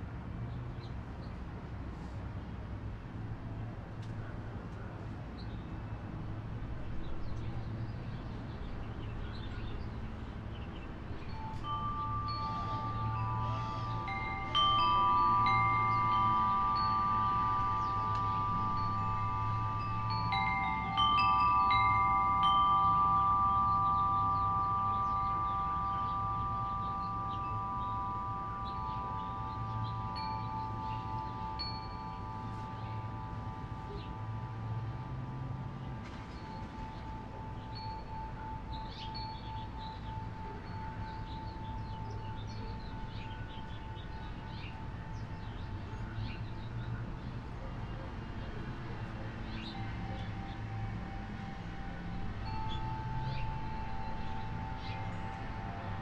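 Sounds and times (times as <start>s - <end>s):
wind chime ringing: 9.3s - 56.0s.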